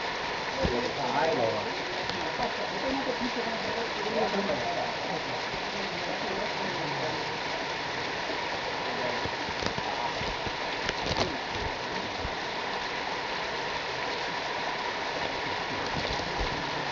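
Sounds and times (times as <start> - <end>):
waterfall splashing on rock: 0.0 - 16.9.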